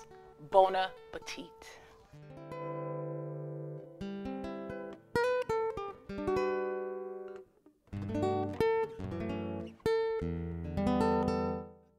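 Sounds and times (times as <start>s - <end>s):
guitar music: 0.0s - 11.9s.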